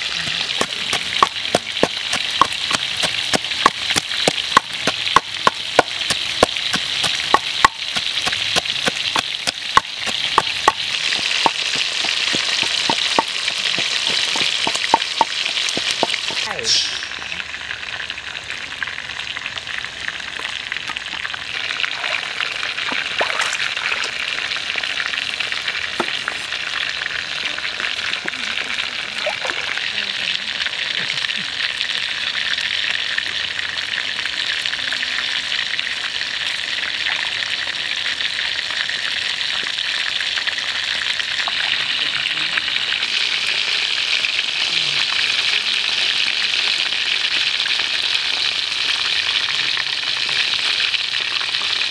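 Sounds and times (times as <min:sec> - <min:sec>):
hot oil sizzling: 0:00.0 - 0:51.9
oil crackles and pops: 0:00.0 - 0:51.9.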